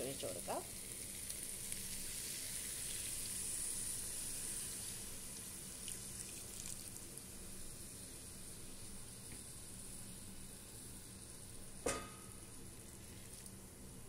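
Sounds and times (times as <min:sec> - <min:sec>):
liquid pouring and sizzling: 0:00.0 - 0:14.0.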